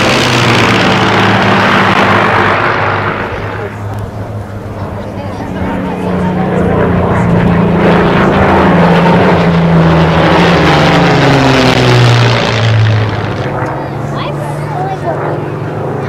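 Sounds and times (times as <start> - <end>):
propeller plane engine droning overhead: 0.0 - 16.0.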